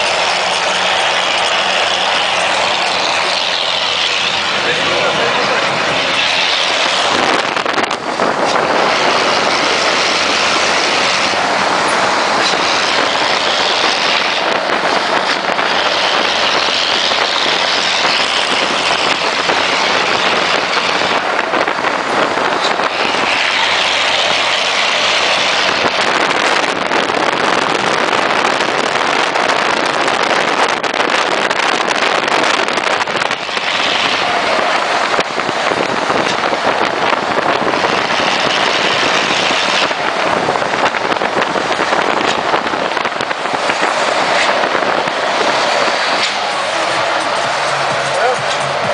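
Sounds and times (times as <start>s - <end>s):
vehicle roar echoing in tunnel: 0.0s - 48.9s.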